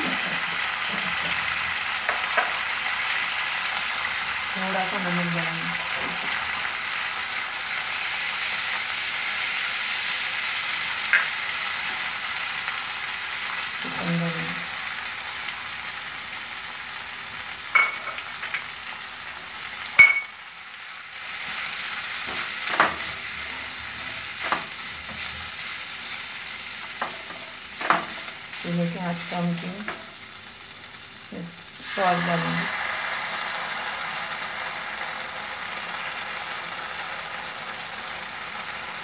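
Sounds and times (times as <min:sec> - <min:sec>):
sauce sizzling in a frying pan: 0:00.0 - 0:39.0.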